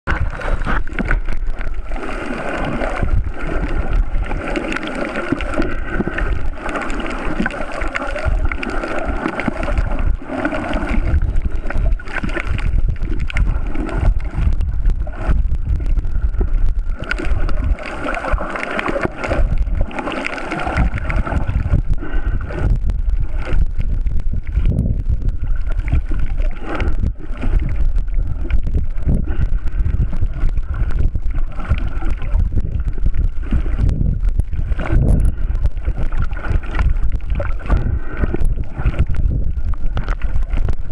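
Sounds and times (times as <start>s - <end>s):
muffled underwater rumble: 0.0s - 40.9s
water sloshing and gurgling: 0.0s - 40.9s.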